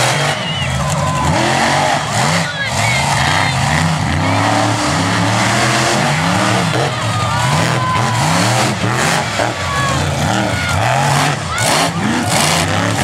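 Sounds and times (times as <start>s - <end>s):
monster truck engines revving: 0.0s - 13.0s.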